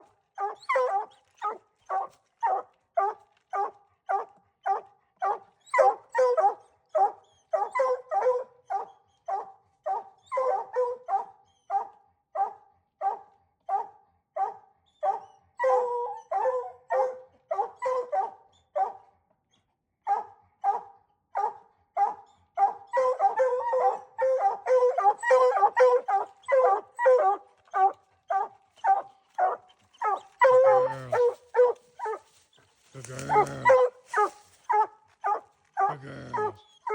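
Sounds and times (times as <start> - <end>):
hound barking: 0.0 - 19.1, 20.0 - 36.9.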